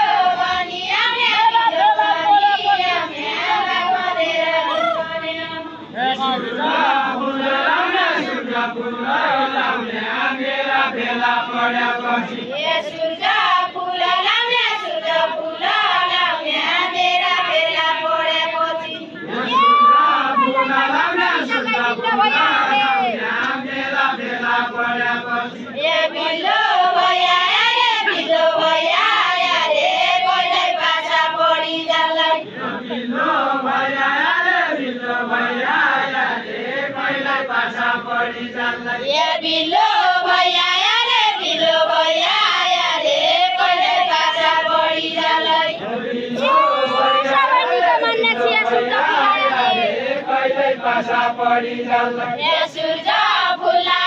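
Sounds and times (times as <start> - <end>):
men singing in chorus: 0.0 - 54.0.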